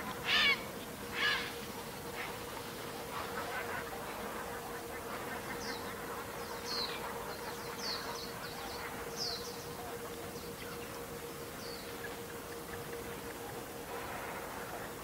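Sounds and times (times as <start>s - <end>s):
faint constant hum: 0.0s - 15.0s.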